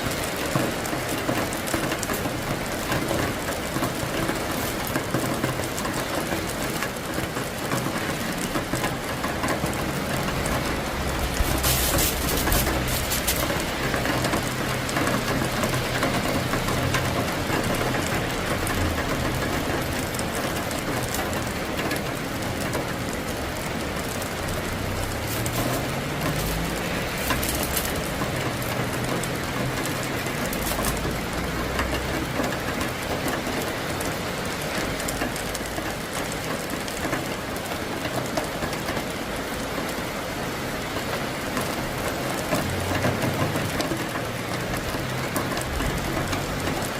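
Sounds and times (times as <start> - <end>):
heavy rain splashing: 0.0 - 46.9.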